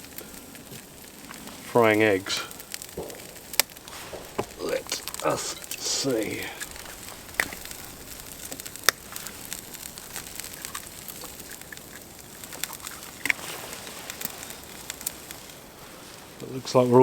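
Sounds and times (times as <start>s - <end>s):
campfire crackling: 0.0s - 17.0s
eggs sizzling: 0.0s - 17.0s
sharp crack: 0.0s - 17.0s.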